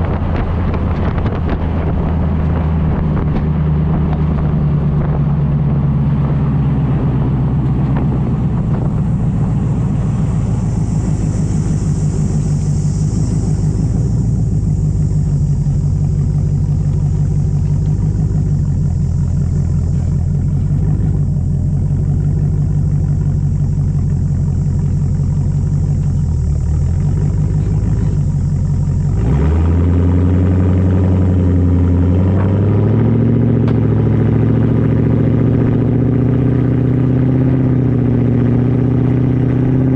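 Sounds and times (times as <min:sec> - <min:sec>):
engine exhaust note: 0:00.0 - 0:39.9.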